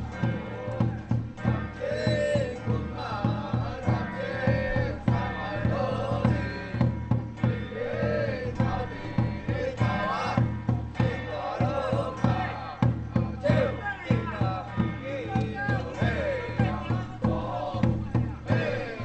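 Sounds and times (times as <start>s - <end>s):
steady drumbeats: 0.0s - 19.0s
wavering ritual melody: 0.0s - 19.0s.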